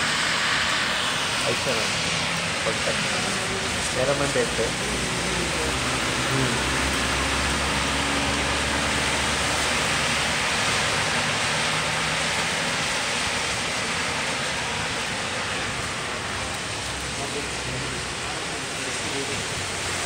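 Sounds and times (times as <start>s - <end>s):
passing vehicle engine rumble: 0.0s - 20.0s
rain and tyres on wet street: 0.0s - 20.0s.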